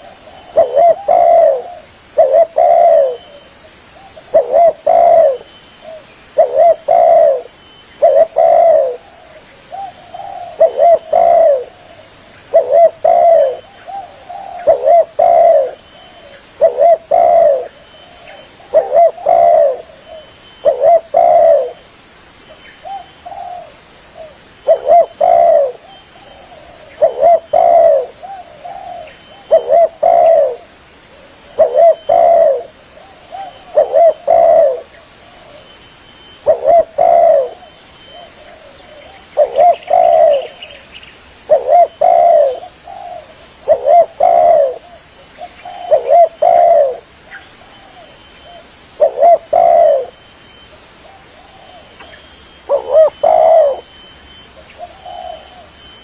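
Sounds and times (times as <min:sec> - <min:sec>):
dove cooing: 0:00.0 - 0:21.9, 0:22.8 - 0:56.0.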